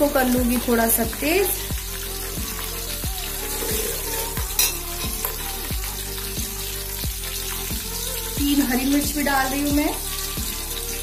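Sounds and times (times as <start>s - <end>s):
background music with steady beat: 0.0s - 11.0s
food sizzling in hot oil: 0.0s - 11.0s.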